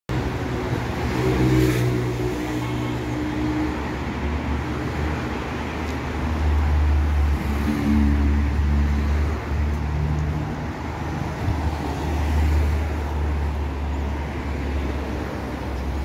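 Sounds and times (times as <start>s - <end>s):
street traffic engines: 0.1s - 16.0s.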